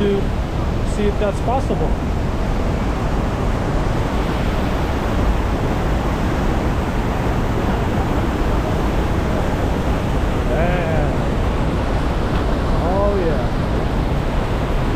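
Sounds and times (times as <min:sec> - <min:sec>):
waterfall roaring: 0:00.0 - 0:14.9.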